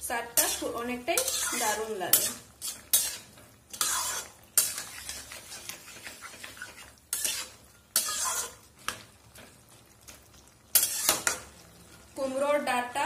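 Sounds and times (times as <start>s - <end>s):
faint sizzle: 0.0s - 13.0s
metal spatula scraping pan: 0.3s - 9.5s, 10.7s - 12.4s.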